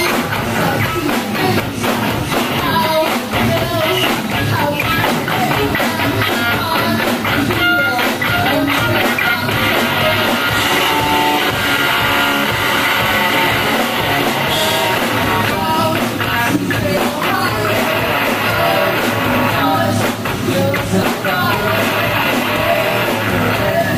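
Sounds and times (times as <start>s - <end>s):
woman singing: 0.0s - 12.0s, 13.1s - 23.9s
drum kit: 0.0s - 23.9s
electric guitar: 0.0s - 23.9s.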